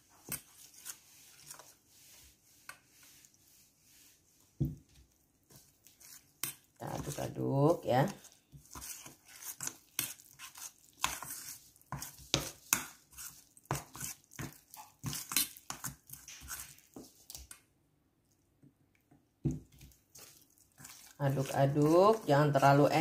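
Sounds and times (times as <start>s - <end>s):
spoon stirring batter in metal bowl: 0.0s - 17.8s, 19.0s - 23.0s.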